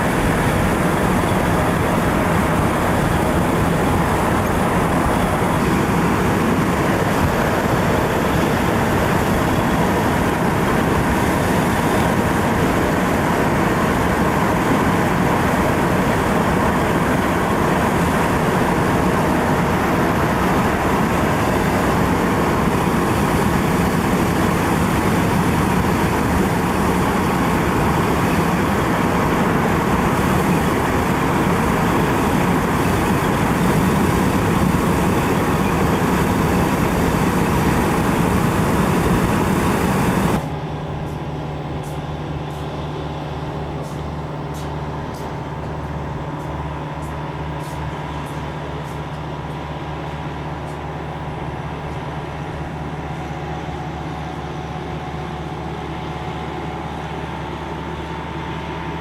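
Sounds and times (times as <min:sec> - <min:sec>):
vehicle road noise: 0:00.0 - 0:59.0.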